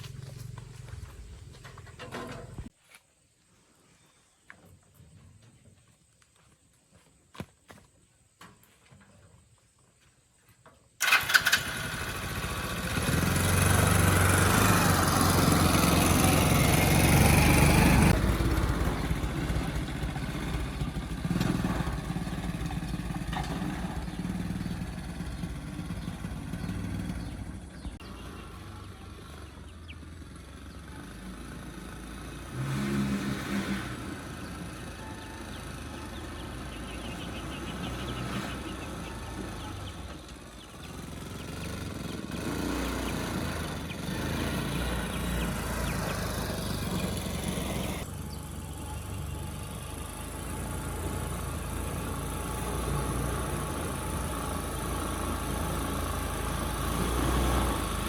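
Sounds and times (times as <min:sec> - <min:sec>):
motorcycle engine running: 0:00.0 - 0:02.7, 0:11.0 - 0:58.0.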